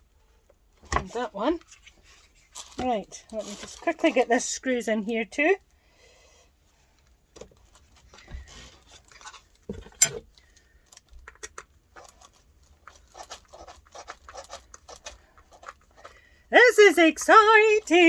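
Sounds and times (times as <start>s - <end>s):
plastic and metal parts handled: 0.2s - 4.3s, 6.9s - 18.0s.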